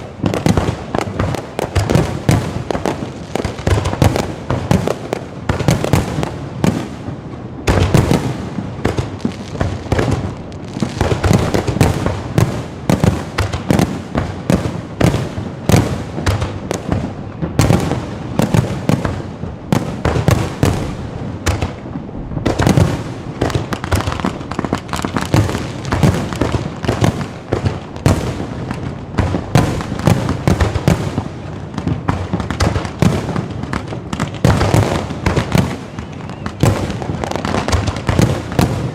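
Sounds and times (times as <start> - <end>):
fireworks booms and bangs: 0.0 - 38.9
fireworks crackling: 0.0 - 38.9.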